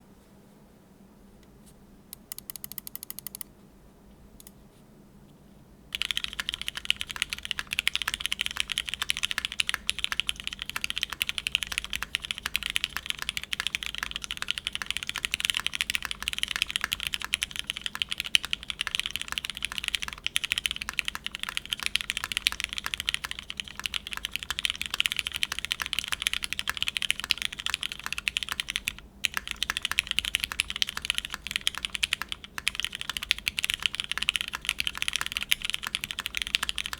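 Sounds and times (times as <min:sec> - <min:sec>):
mechanical keyboard typing: 0:02.2 - 0:03.5, 0:05.9 - 0:36.9.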